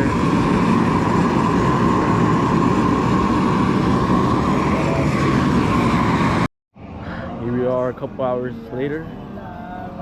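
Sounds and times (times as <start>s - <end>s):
propane torch roaring: 0.0s - 10.0s.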